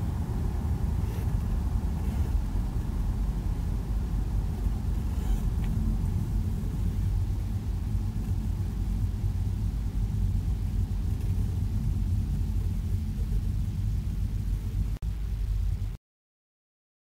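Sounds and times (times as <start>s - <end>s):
road and engine noise in car: 0.0s - 16.0s.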